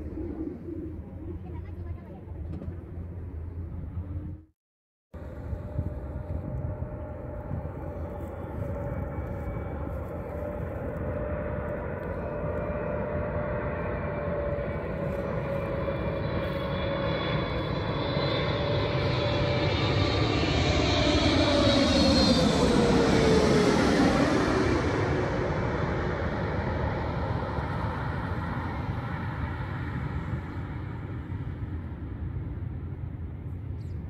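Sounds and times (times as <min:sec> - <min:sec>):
jet airliner flying overhead: 0:00.0 - 0:04.5, 0:05.2 - 0:34.0.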